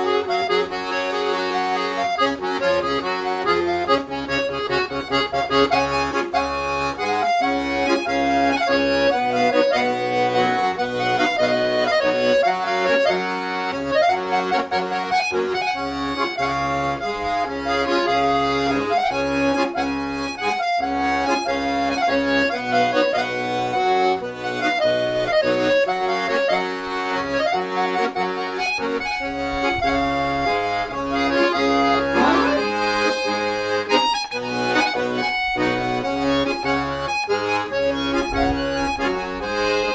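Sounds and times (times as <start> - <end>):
accordion music: 0.0 - 39.9.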